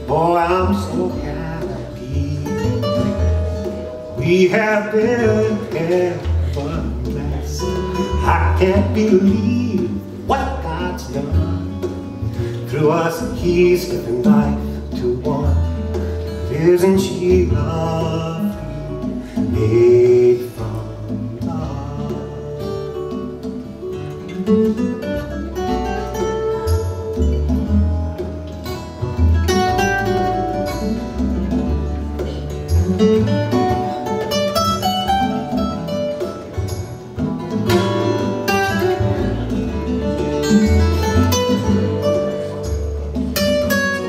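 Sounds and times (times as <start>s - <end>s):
acoustic guitar music over loudspeakers: 0.0s - 44.0s.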